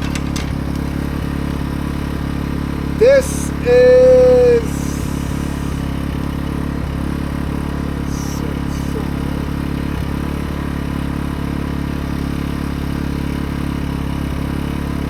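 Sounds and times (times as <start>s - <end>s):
portable generator engine humming: 0.0s - 15.0s.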